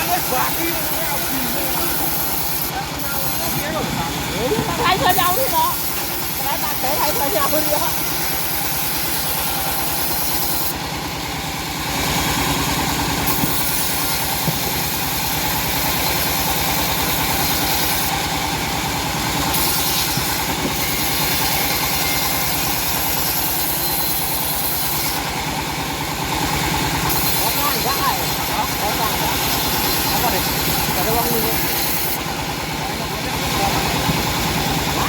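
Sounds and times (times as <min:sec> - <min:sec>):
bandsaw hissing: 0:00.0 - 0:35.0
sawmill engine running: 0:00.0 - 0:35.0.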